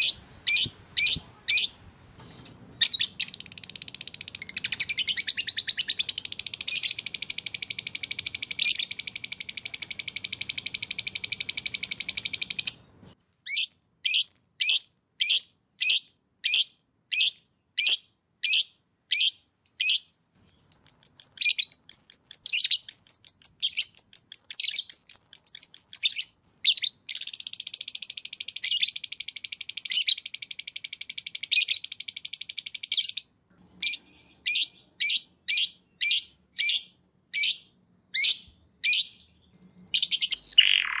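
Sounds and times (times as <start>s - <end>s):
cage bird singing trills: 0.0s - 12.9s, 13.5s - 41.0s.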